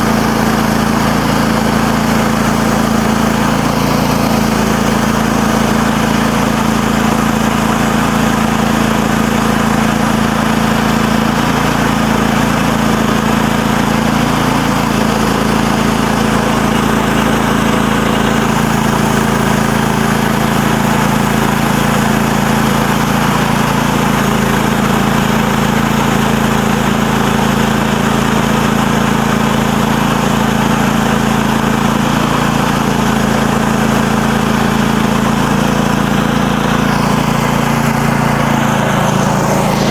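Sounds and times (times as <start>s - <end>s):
saw blade cutting log: 0.0s - 9.8s, 10.7s - 26.2s, 31.9s - 39.9s
small engine running: 0.0s - 39.9s.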